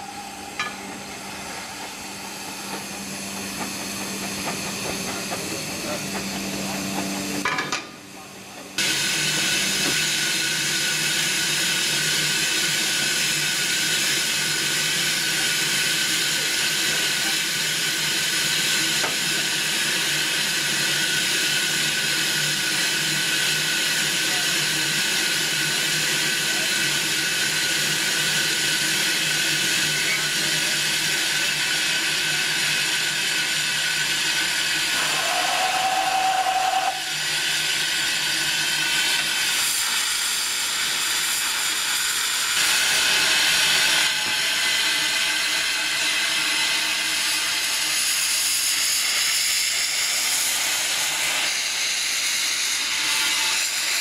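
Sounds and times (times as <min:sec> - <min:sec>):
steam hissing: 0:08.2 - 0:54.0.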